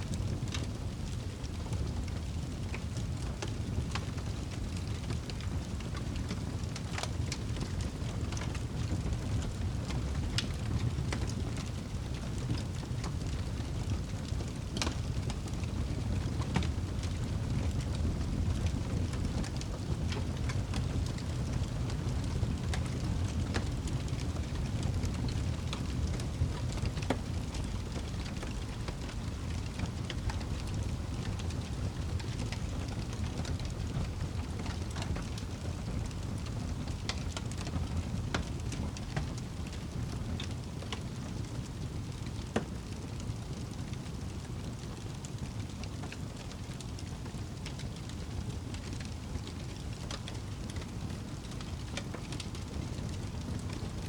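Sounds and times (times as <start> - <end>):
low rumble of flames: 0.0 - 54.0
logs crackling and popping: 0.1 - 54.0.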